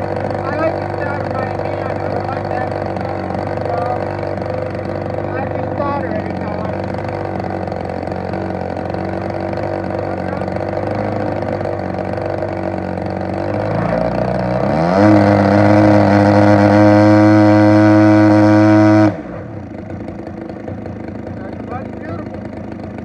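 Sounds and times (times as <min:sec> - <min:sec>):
model airplane engine running: 0:00.0 - 0:23.0.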